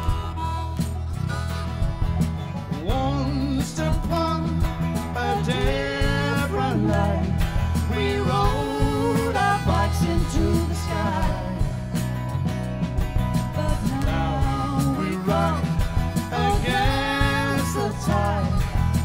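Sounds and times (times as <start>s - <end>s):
bass: 0.0s - 19.0s
drums: 0.0s - 19.0s
strummed acoustic guitar: 0.0s - 19.0s
wavering lead melody: 0.0s - 19.0s.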